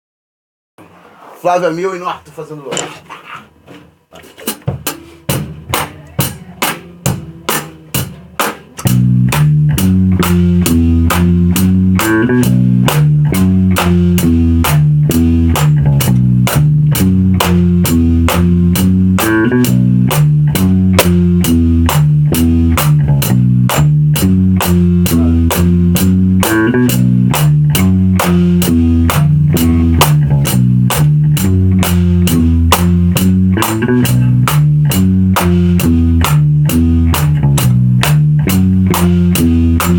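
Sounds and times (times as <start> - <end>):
drum kit steady beat: 3.9 - 39.9
bass and guitar riff: 4.4 - 39.9.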